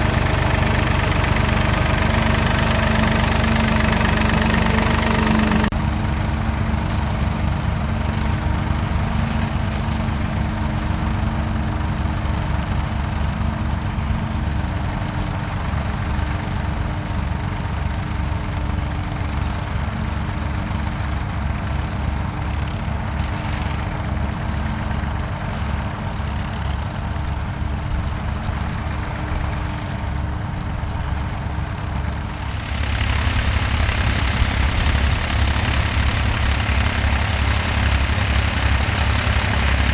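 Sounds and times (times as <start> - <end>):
tractor diesel engines working: 0.0 - 39.9.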